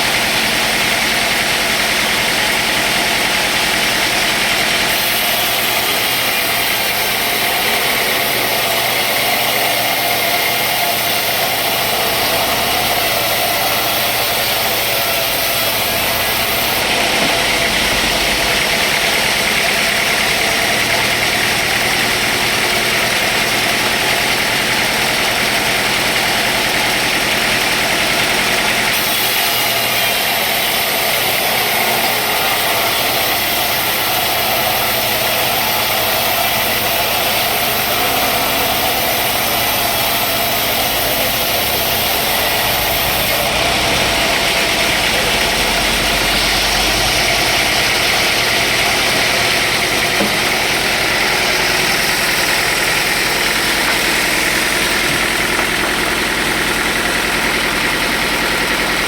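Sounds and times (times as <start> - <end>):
loud machinery hiss: 0.0 - 59.0
sawmill motor drone: 0.0 - 59.0.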